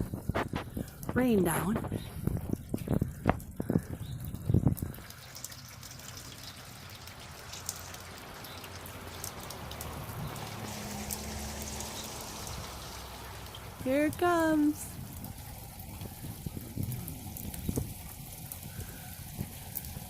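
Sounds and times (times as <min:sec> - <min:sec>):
water trickling in a gutter: 0:00.0 - 0:20.0.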